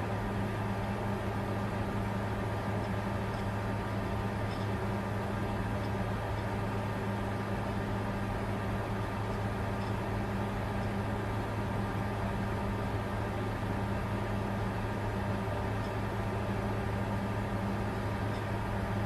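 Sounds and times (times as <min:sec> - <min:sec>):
constant low hum: 0:00.0 - 0:19.0
cooling fans whirring: 0:00.0 - 0:19.0.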